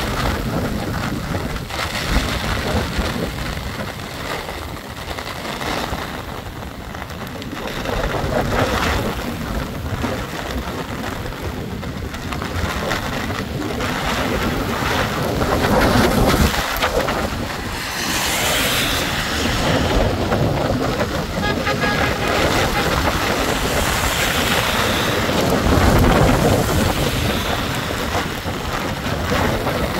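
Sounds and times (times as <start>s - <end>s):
wind gusting on microphone: 0.0s - 29.9s.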